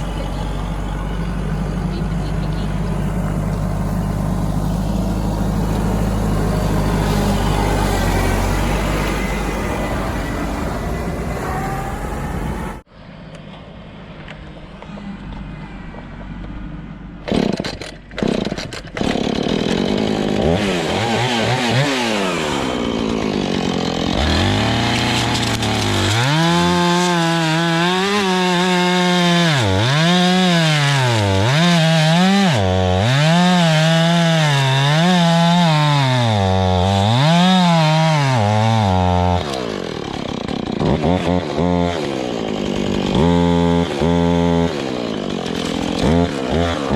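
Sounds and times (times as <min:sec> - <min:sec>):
chainsaw cutting log: 0:00.0 - 0:09.6, 0:17.2 - 0:46.9.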